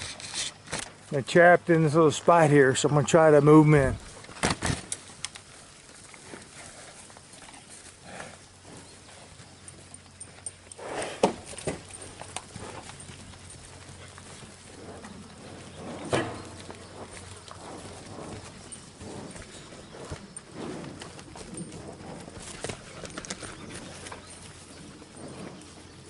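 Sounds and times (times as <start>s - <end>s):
cattle hooves knocking: 1.1s - 26.0s.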